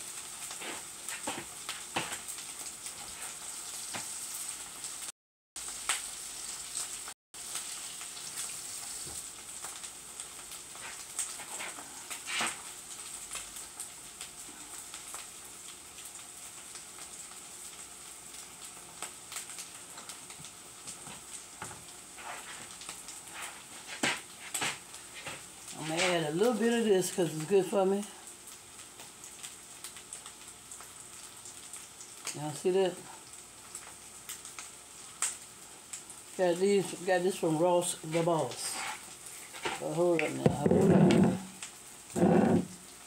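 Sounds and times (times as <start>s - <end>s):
hash sizzling in a skillet: 0.0s - 43.0s.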